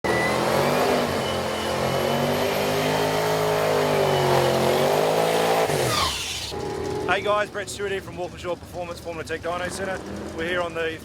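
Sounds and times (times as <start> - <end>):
drag car engine at held revs: 0.0 - 11.0.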